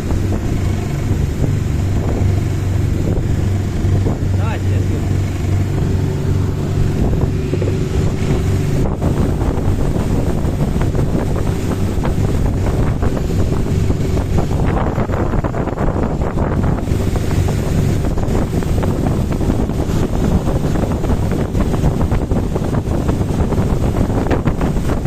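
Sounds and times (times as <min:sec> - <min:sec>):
boat engine humming: 0:00.0 - 0:25.0
rushing water: 0:00.0 - 0:25.0
wind buffeting microphone: 0:00.0 - 0:25.0.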